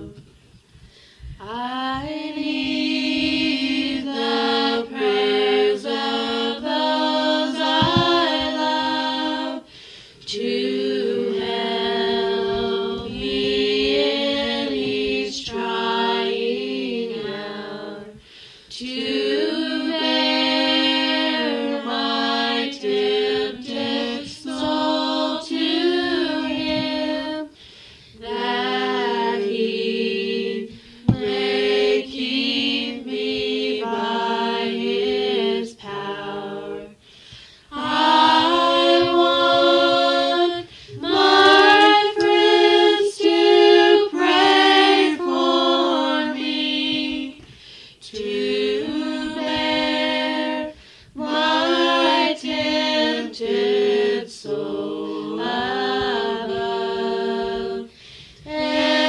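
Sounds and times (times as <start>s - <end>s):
vocal group singing a hymn: 0.0s - 59.0s.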